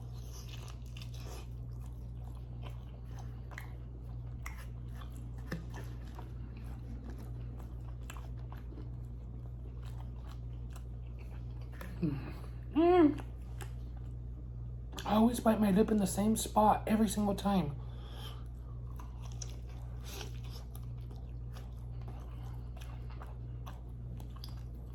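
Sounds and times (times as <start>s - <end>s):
crunchy chewing: 0.0s - 15.1s, 18.0s - 24.9s
steady low hum: 0.0s - 24.9s.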